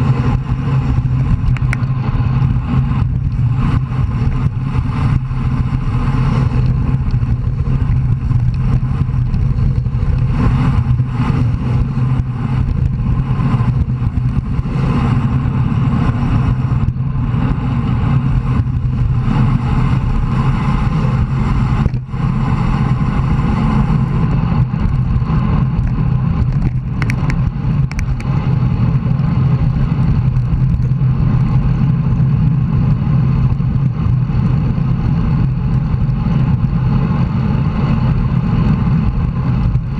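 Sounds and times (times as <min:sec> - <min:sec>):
bicycle road noise: 0:00.0 - 0:39.9
wind rush: 0:00.0 - 0:39.9.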